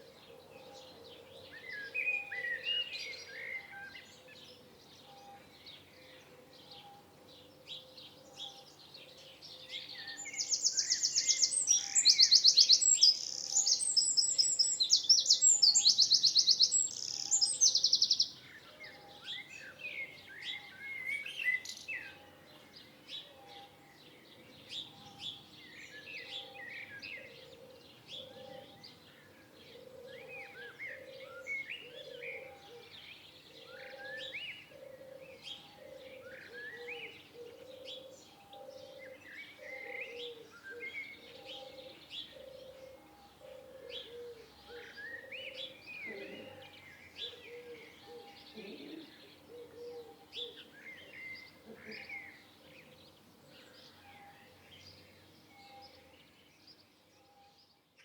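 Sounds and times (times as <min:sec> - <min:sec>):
birds singing and calling: 0:00.0 - 0:58.0.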